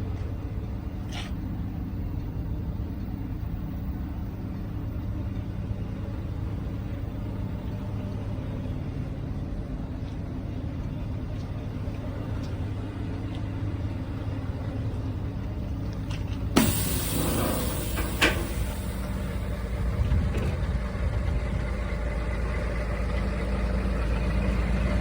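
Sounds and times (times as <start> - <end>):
truck diesel engine droning: 0.0 - 25.0.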